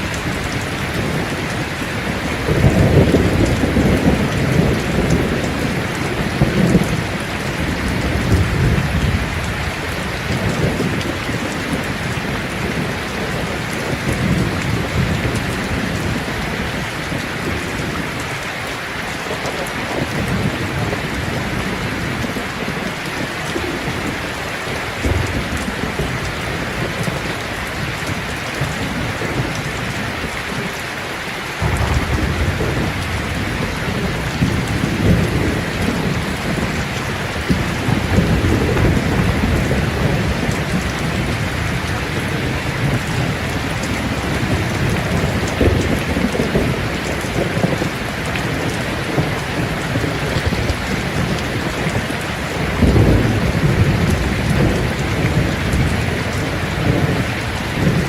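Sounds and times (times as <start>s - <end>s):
thunder rumbling: 0.0s - 18.4s, 19.1s - 30.7s, 31.6s - 58.0s
steady rain falling: 0.0s - 58.0s.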